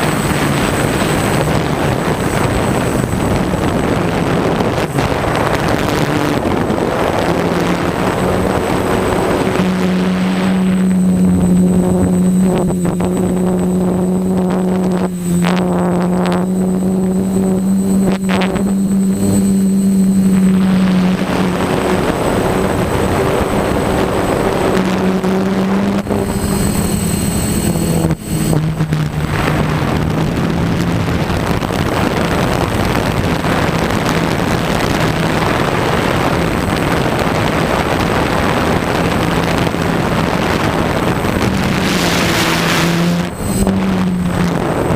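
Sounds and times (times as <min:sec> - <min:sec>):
drone propellers humming: 0:00.0 - 0:44.9
rushing wind: 0:00.0 - 0:44.9.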